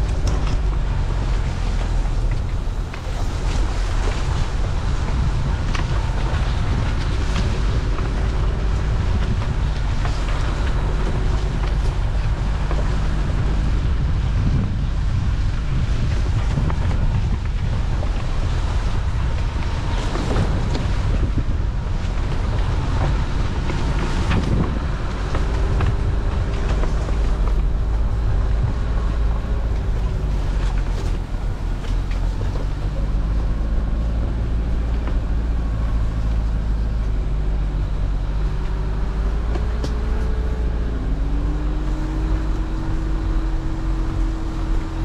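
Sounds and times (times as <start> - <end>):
vehicle engine and tyres rumbling: 0.0 - 45.0
wind buffeting microphone: 0.0 - 45.0.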